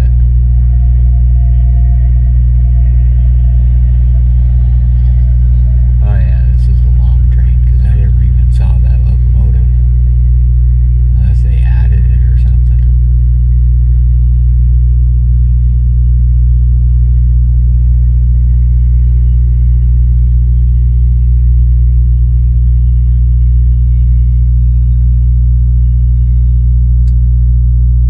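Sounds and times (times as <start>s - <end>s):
vehicle low rumble: 0.0s - 28.0s.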